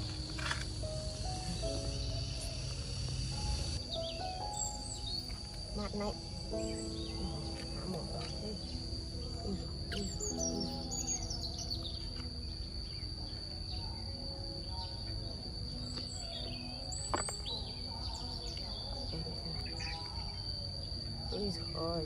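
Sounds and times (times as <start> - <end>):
bird chirps: 0.0 - 22.0
high-pitched insect drone: 0.0 - 22.0.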